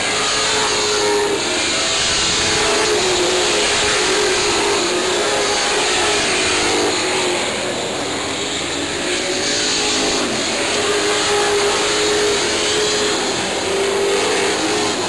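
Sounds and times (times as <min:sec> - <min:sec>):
race car engines roaring: 0:00.0 - 0:15.0.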